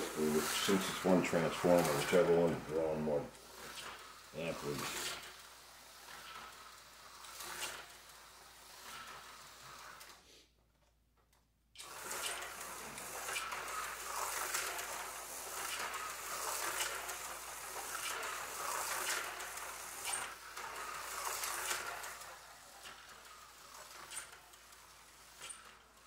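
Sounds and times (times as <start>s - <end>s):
slot car rattling: 0.0s - 9.7s, 12.0s - 26.0s
small electric motor whirring: 0.0s - 10.2s, 11.8s - 26.0s.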